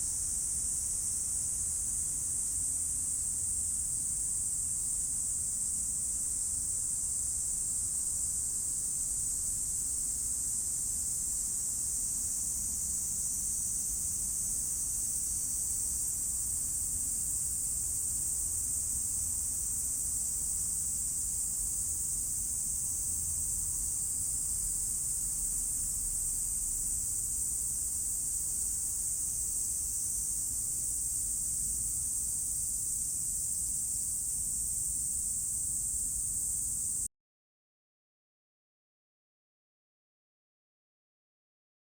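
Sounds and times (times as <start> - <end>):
cicadas chorus: 0.0 - 37.1.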